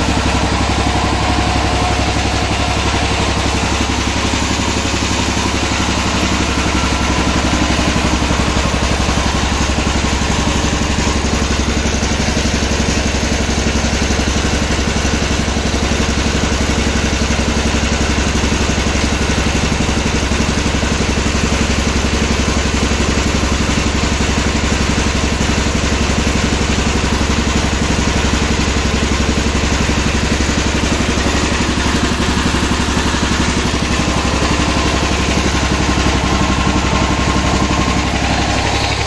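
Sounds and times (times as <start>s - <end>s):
small engine running steadily: 0.0s - 39.0s.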